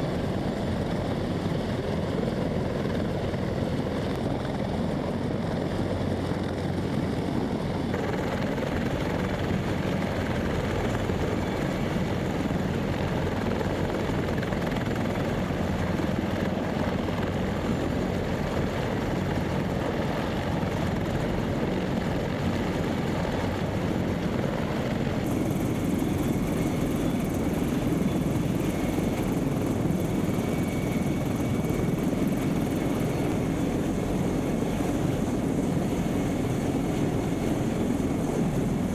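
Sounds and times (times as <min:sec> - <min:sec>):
aircraft engines droning: 0:00.0 - 0:38.9.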